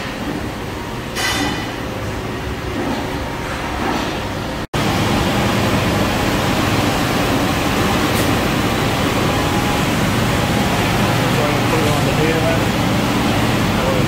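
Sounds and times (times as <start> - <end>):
industrial floor fan running: 0.0 - 14.0.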